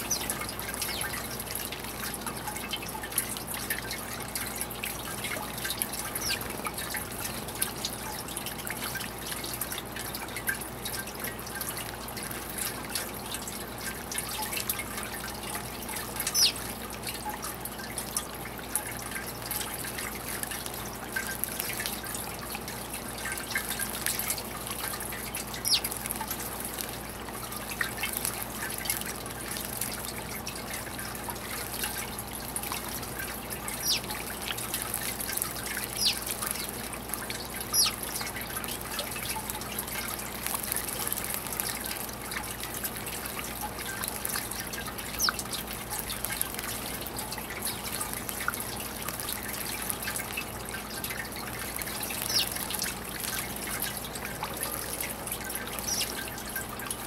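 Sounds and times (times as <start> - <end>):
water dripping and splashing: 0.0 - 57.0
water trickling into basin: 0.0 - 57.0.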